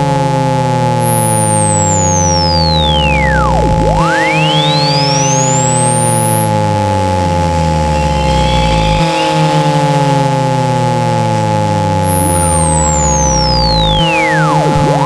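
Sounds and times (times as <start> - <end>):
high sweeping pure tone: 0.0 - 15.0
low buzzing hum: 0.0 - 15.0
steady mid tones: 0.0 - 15.0.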